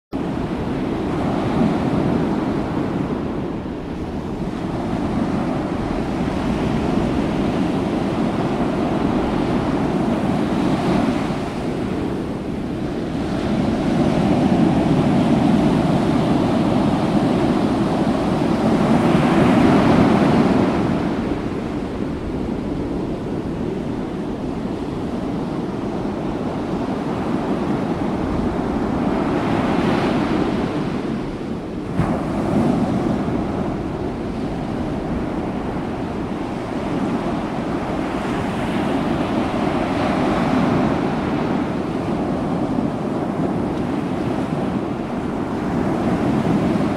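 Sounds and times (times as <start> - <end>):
ocean waves rushing: 0.2 - 46.9.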